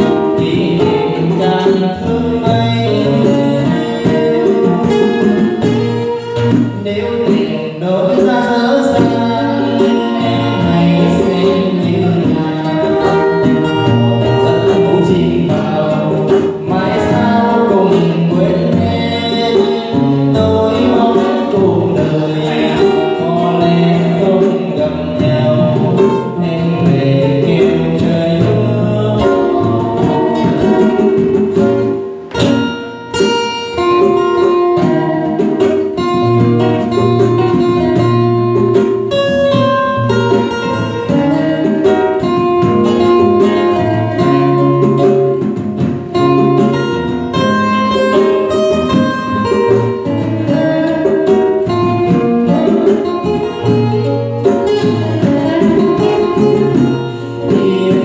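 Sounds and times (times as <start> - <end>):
man singing into a microphone: 0.0 - 31.8, 33.2 - 58.0
acoustic guitars strummed and plucked: 0.0 - 58.0
hand drum: 0.0 - 58.0.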